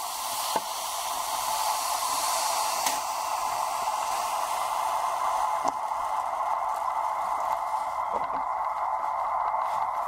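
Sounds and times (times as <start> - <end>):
brazing torch flame hissing: 0.0 - 10.0.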